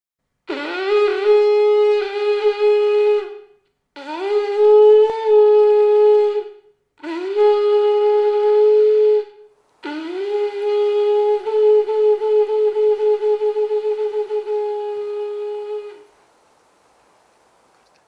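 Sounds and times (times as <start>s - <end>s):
horn-like wind instrument notes: 0.5s - 16.1s.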